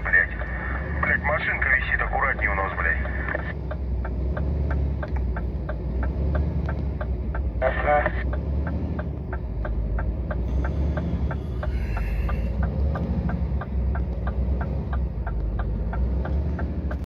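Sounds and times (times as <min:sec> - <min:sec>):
even ticking: 0:00.0 - 0:17.0
truck diesel engine droning: 0:00.0 - 0:17.0.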